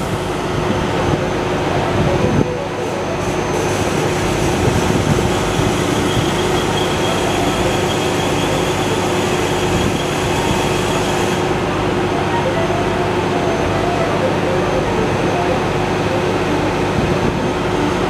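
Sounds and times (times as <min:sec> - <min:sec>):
truck engines droning: 0:00.0 - 0:18.0.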